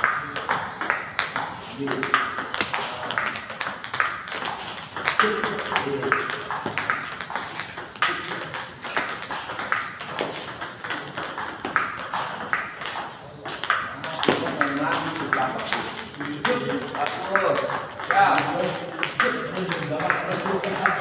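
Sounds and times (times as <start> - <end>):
table tennis balls clicking: 0.0 - 21.0.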